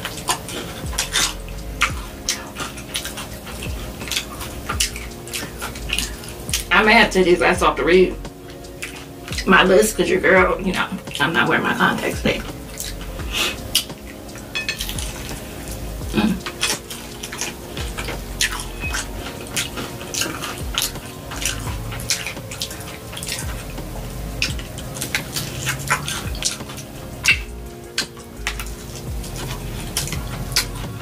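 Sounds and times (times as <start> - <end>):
crunchy chewing of fried chicken: 0.0 - 6.7, 8.1 - 9.5, 12.2 - 31.0.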